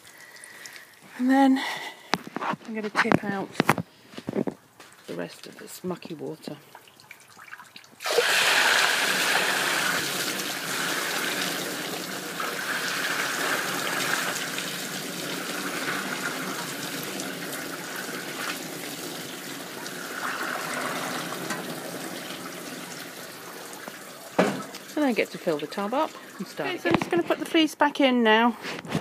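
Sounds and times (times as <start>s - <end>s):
water pouring and splashing: 0.0s - 1.4s, 2.0s - 27.6s.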